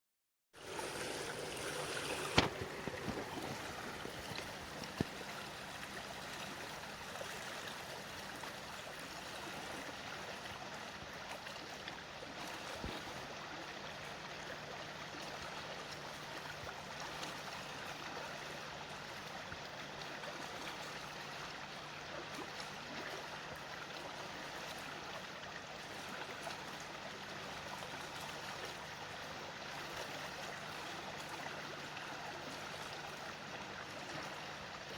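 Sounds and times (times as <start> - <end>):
water stream flowing: 0.6 - 34.9.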